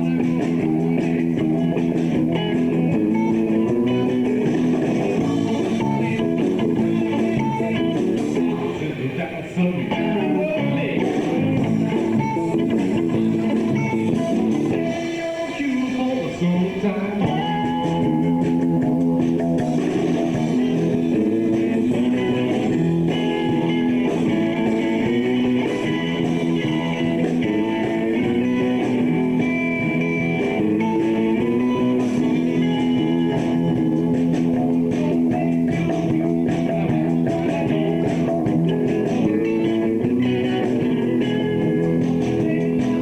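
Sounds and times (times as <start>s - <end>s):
electric guitar: 0.0s - 43.0s
rock band playing: 0.0s - 43.0s.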